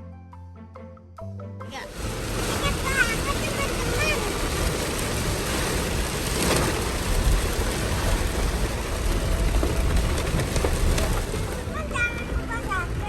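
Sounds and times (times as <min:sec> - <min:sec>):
steady rain falling: 0:01.9 - 0:13.0.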